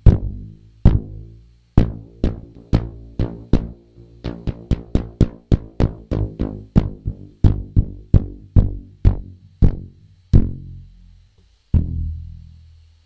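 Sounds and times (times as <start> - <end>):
elastic band twanging: 0.0 - 11.0.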